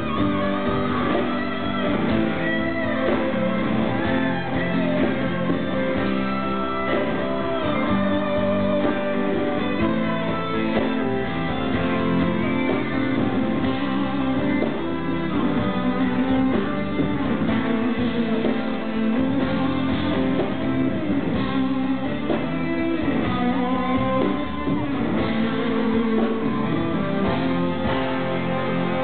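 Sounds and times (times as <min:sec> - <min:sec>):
bass guitar: 0:00.0 - 0:29.0
drums: 0:00.0 - 0:29.0
electric guitar: 0:00.0 - 0:29.0.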